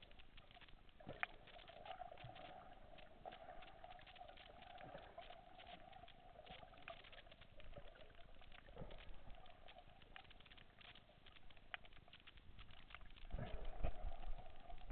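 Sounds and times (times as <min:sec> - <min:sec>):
crackle of small underwater clicks: 0:00.0 - 0:14.9
steady underwater hum: 0:00.0 - 0:14.9.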